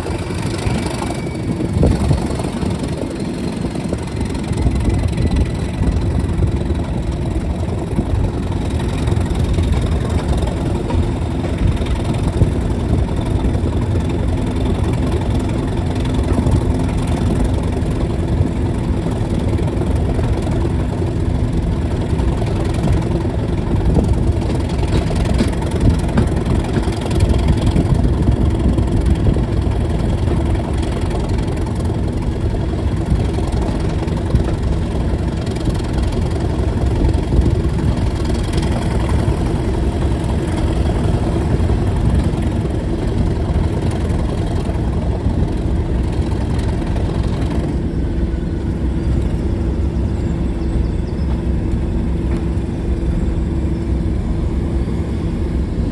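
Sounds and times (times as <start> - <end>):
diesel locomotive engine running: 0.0 - 55.9
moving train rumble: 0.0 - 55.9.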